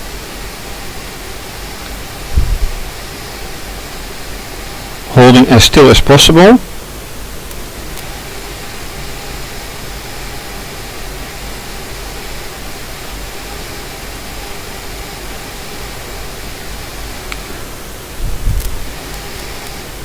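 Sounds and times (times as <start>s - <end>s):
small electric motor whirring: 0.0s - 5.8s, 7.6s - 20.0s.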